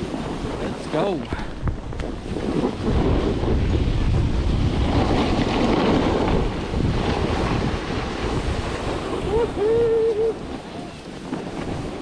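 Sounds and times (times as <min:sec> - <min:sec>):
snowboard sliding on snow: 0:00.0 - 0:12.0
wind buffeting microphone: 0:00.0 - 0:12.0.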